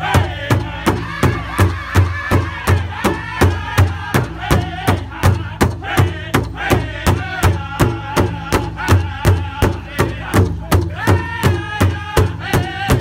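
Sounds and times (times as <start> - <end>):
big drum steady beat: 0.0 - 13.0
group singing in unison: 0.0 - 13.0.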